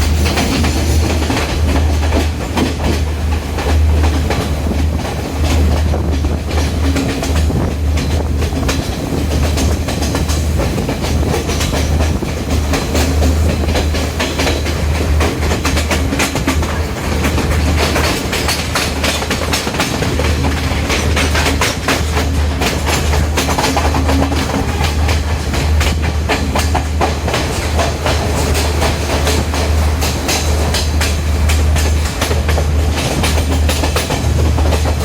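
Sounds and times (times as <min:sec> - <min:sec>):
train rumbling along track: 0:00.0 - 0:35.0
wheels clicking over rails: 0:00.0 - 0:35.0.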